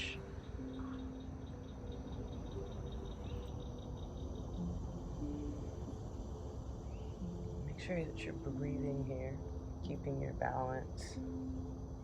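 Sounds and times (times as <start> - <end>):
insects chirping: 0.0 - 12.0
low background hiss: 0.0 - 12.0.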